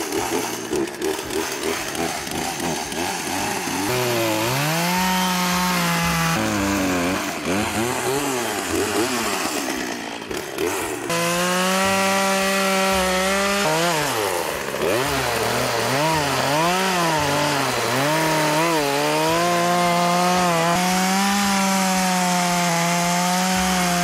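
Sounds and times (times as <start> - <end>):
chainsaw cutting log: 0.0 - 24.0.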